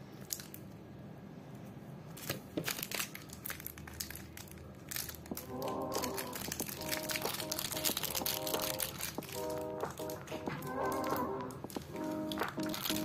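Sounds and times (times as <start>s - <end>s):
plastic wrapper crinkling: 2.1s - 13.0s.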